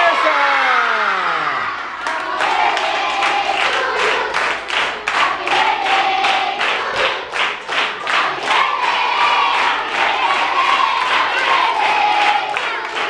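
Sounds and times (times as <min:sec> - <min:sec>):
voices singing together: 0:01.1 - 0:13.0
group clapping in rhythm: 0:01.6 - 0:13.0.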